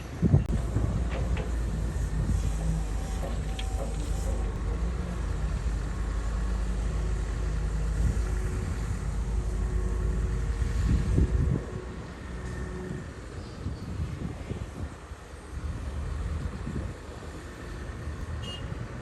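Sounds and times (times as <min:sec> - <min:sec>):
bulldozer diesel engine rumbling: 0:00.0 - 0:19.0.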